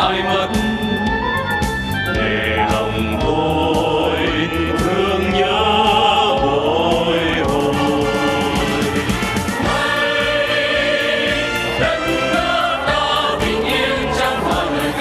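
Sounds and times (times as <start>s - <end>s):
backing track with drumbeat: 0.0s - 15.0s
mixed choir singing: 2.1s - 15.0s.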